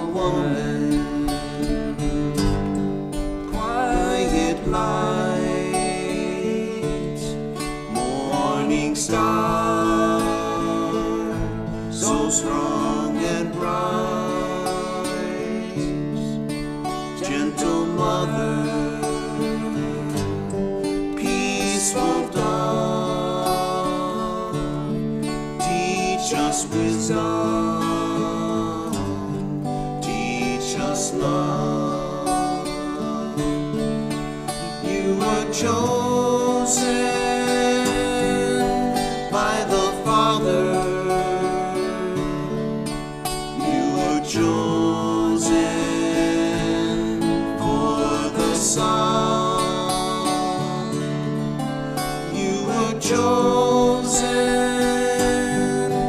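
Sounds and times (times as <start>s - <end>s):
acoustic guitars strummed: 0.0s - 56.0s
men singing a hymn: 0.0s - 56.0s.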